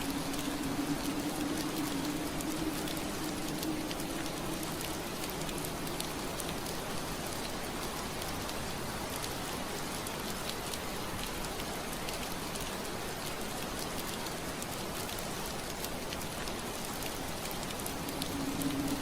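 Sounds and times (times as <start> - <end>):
low wind: 0.0 - 19.0
rain on window pane: 0.0 - 19.0.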